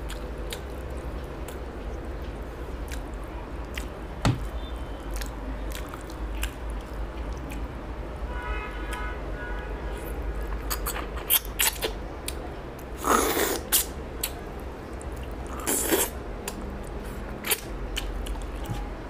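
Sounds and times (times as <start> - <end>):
wet chewing and lip smacks: 0.0 - 7.7, 10.4 - 18.7.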